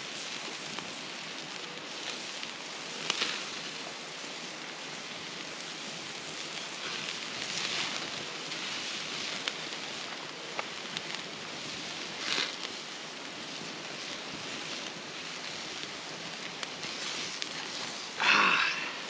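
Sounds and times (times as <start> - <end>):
burger patties sizzling: 0.0 - 19.0
crackling campfire: 0.0 - 19.0.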